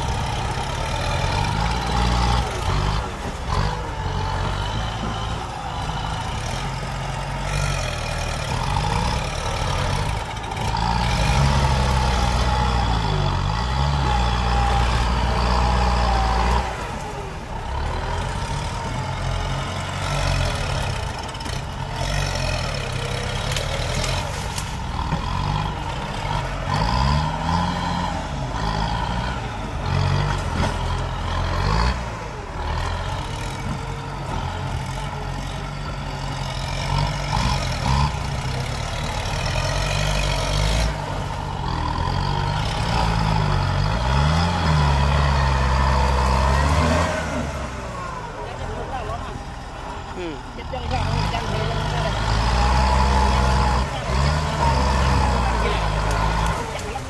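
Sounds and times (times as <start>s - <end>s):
tractor diesel engines revving: 0.0s - 57.0s.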